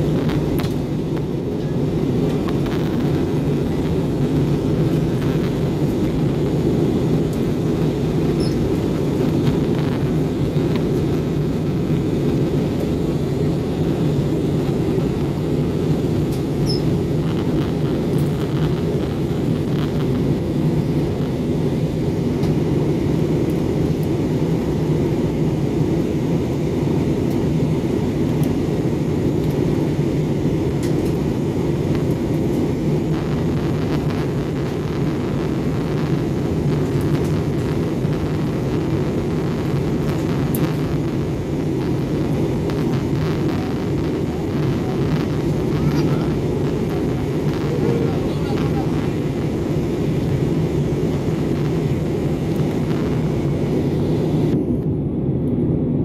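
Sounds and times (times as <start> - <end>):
airliner cabin engine roar: 0.0 - 56.0.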